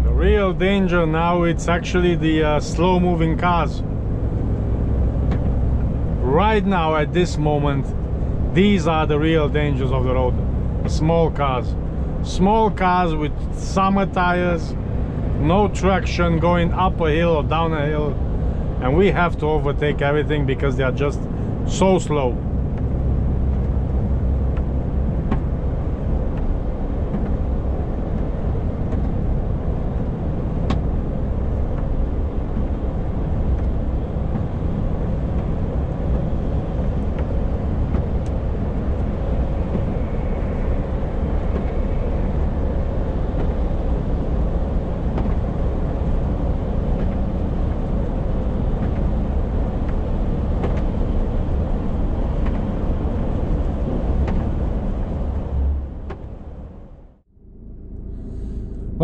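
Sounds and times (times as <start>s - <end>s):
lorry engine and road drone: 0.0s - 59.0s.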